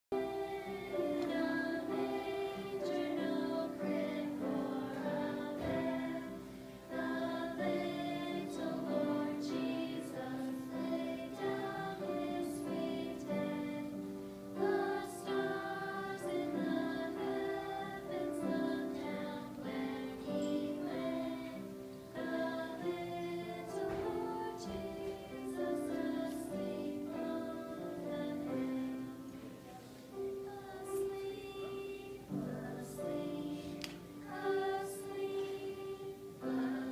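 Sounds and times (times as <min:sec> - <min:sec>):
group singing a carol: 0:00.1 - 0:36.9.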